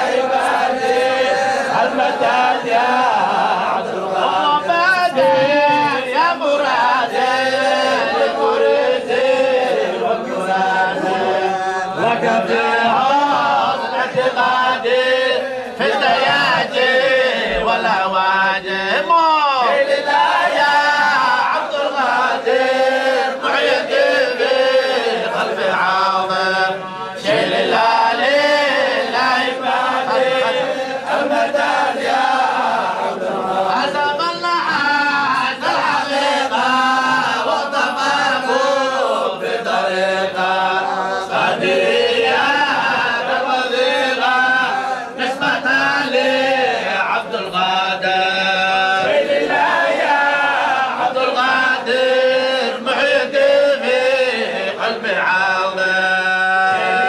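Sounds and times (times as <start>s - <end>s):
men chanting in unison: 0.0s - 57.0s.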